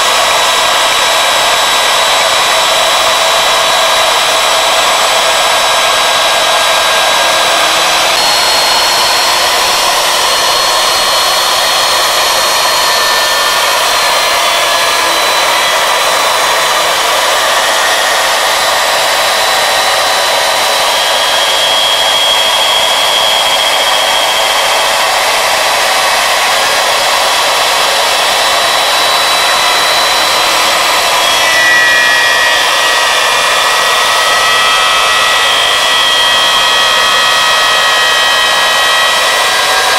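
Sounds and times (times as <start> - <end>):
wood router milling wood: 0.0 - 39.9.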